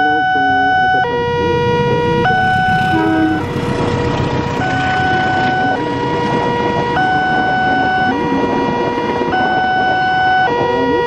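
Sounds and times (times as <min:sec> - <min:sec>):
train coaches rumbling: 0:00.0 - 0:11.0
two-tone level crossing alarm: 0:00.0 - 0:11.0.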